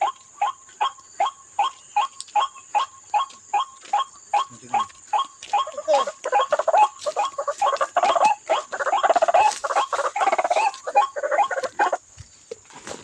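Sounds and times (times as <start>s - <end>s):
bird grunting croaks: 0.0s - 12.1s.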